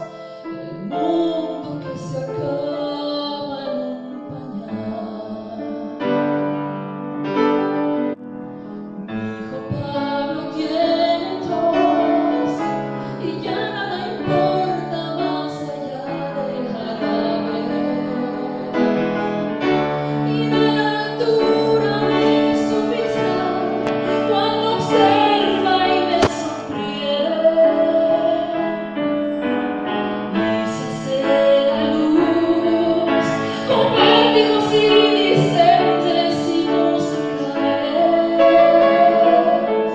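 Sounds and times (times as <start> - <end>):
instrumental accompaniment: 3.8 - 39.9.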